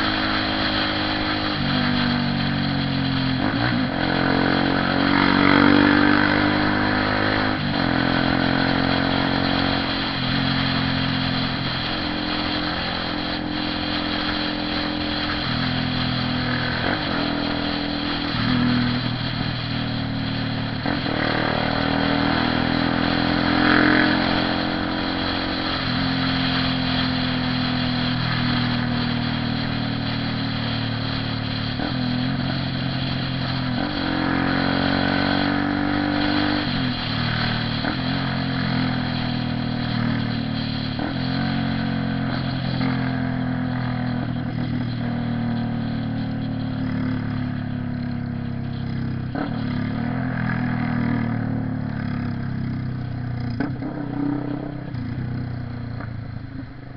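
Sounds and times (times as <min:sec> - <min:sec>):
motorcycle engine accelerating: 0:00.0 - 0:56.9
traffic: 0:00.0 - 0:56.9
wind hiss: 0:00.0 - 0:56.9.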